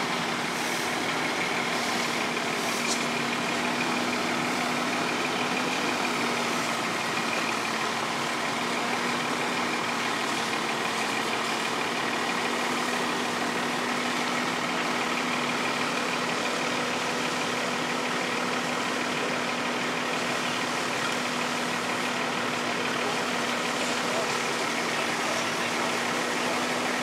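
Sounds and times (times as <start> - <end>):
fire truck engine idling: 0.0 - 27.0.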